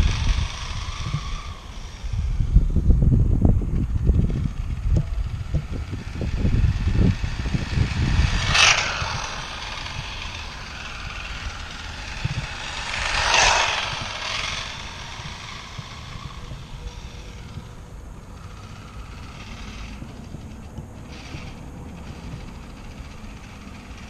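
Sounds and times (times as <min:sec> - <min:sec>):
rc car motor whirring past: 0:00.0 - 0:24.0
wind buffeting microphone: 0:00.0 - 0:24.0.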